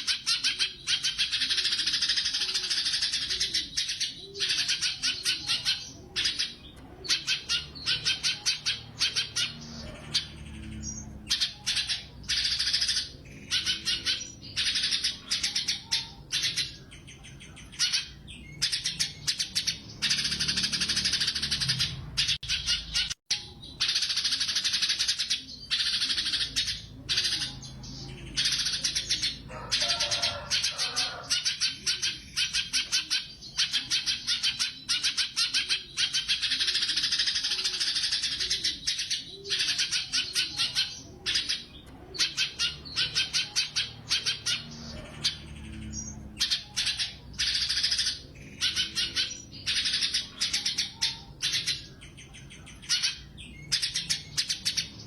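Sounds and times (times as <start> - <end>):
songbird chattering trill: 0.0 - 55.0.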